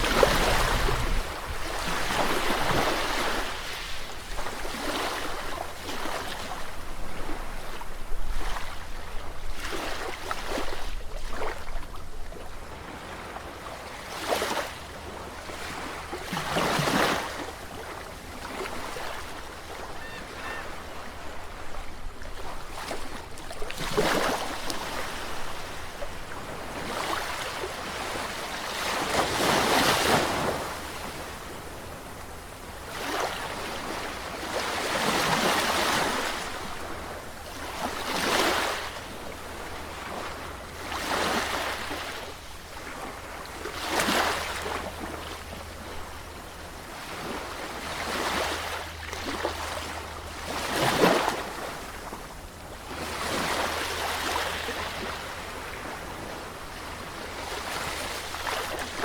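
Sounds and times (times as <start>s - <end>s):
sea waves breaking: 0.0s - 11.6s, 12.8s - 59.0s.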